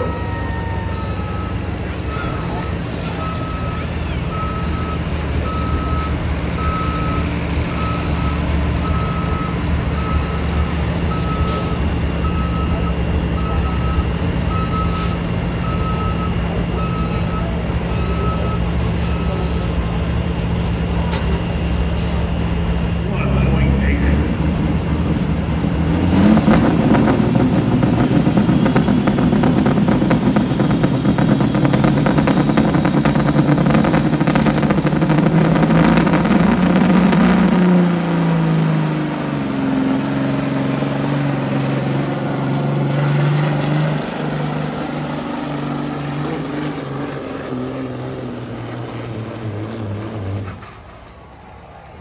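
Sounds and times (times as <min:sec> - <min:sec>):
diesel truck engine under load: 0:00.0 - 0:52.0.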